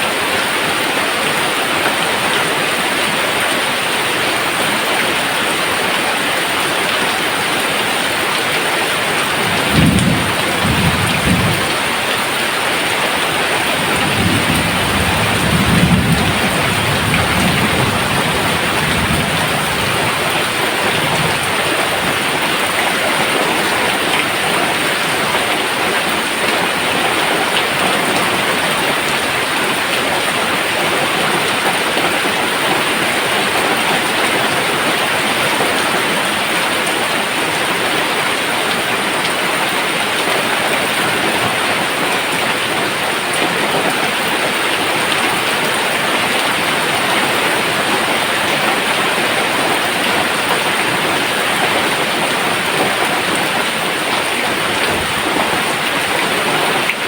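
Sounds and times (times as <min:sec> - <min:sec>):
steady rain pouring: 0:00.0 - 0:57.0.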